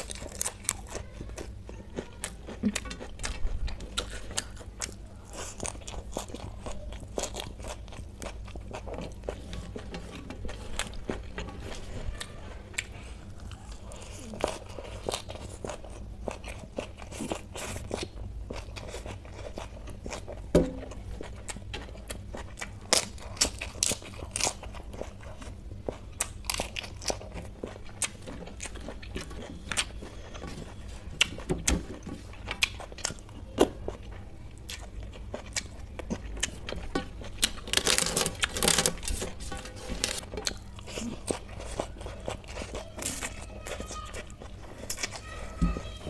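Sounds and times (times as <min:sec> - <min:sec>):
crunching and chewing food: 0:00.0 - 0:46.0.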